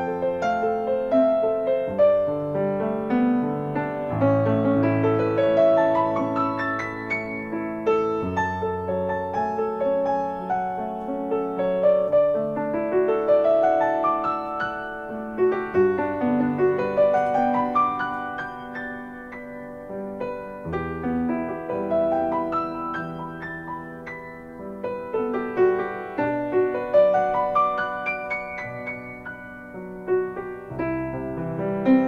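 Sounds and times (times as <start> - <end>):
grand piano playing: 0.0 - 32.0.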